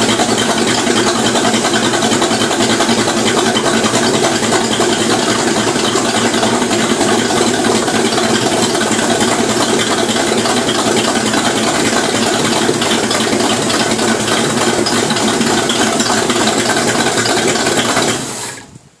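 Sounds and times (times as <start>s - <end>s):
boat engine idling: 0.0s - 18.5s.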